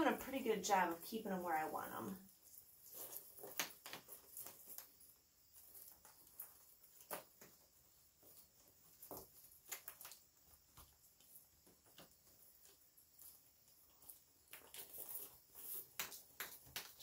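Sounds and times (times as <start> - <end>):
leaves rustling and crinkling: 0.0 - 17.0.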